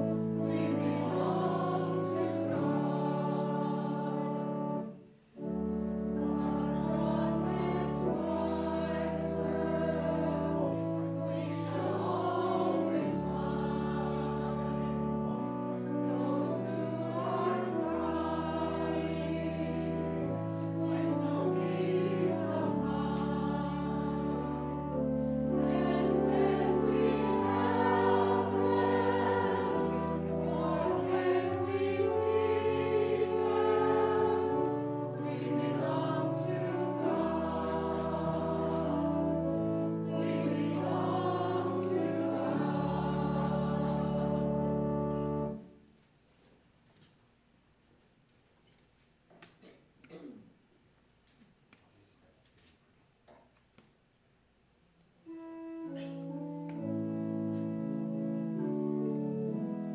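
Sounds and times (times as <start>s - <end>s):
sustained instrumental accompaniment: 0.0s - 45.8s, 55.3s - 59.9s
voices singing a hymn: 0.0s - 45.8s, 55.3s - 59.9s.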